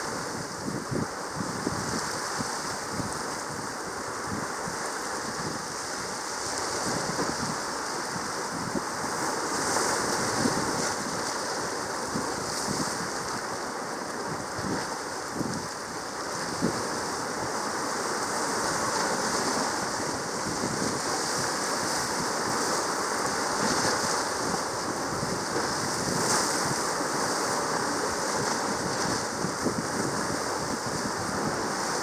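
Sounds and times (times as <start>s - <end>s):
rushing sea water: 0.0s - 32.0s.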